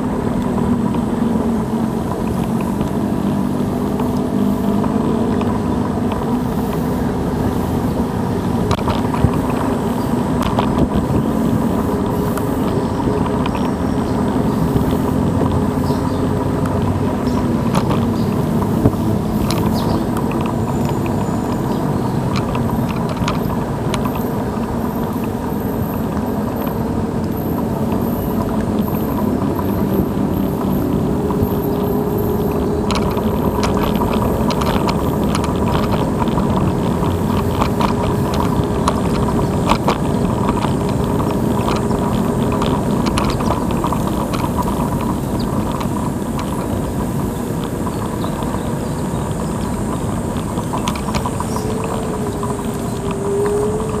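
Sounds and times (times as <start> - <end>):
electric scooter road rumble: 0.0 - 54.0.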